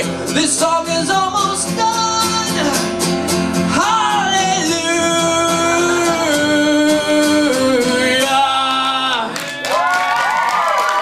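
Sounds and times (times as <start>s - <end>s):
man singing: 0.0s - 9.6s
strummed acoustic guitar: 0.0s - 9.7s.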